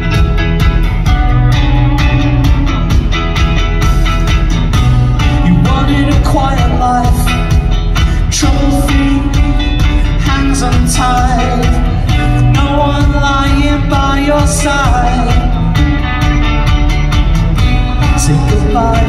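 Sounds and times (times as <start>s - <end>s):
pop-rock band playing: 0.0s - 19.0s.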